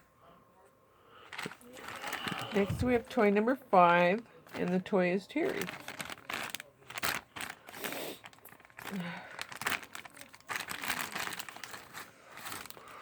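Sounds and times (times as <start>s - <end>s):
plastic packaging crinkling and tearing: 1.2s - 13.0s.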